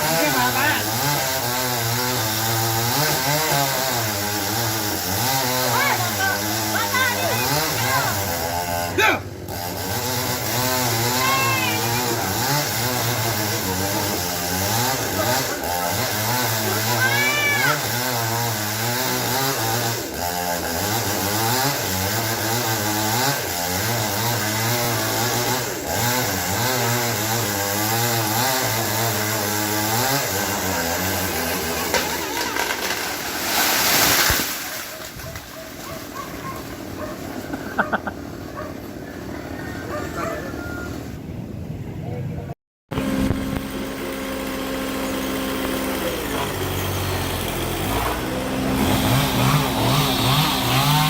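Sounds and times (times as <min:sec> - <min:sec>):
chainsaw revving: 0:00.0 - 0:38.4, 0:42.9 - 0:51.0.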